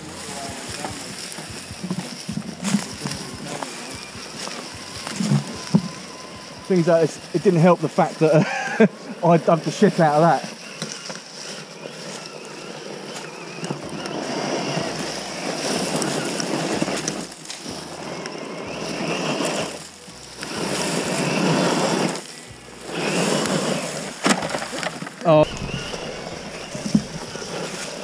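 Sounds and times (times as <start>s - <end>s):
faint electric motor whine: 0.0s - 28.0s
tyres churning in loose dirt: 0.0s - 28.0s.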